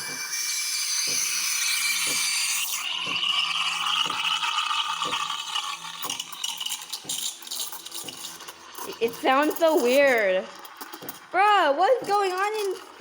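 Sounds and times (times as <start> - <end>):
coffee maker steam hissing: 0.0 - 13.0
water gurgling through pipe: 0.0 - 13.0.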